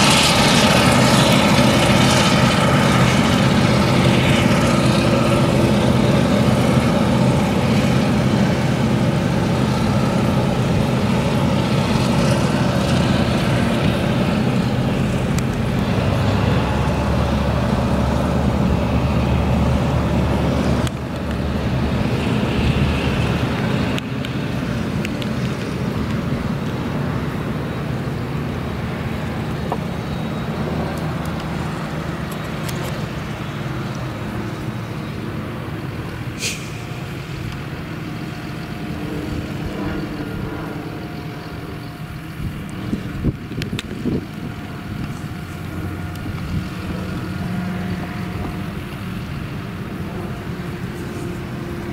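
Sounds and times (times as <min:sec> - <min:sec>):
harvester engine droning under load: 0:00.0 - 0:51.9
tractor engine: 0:00.0 - 0:51.9.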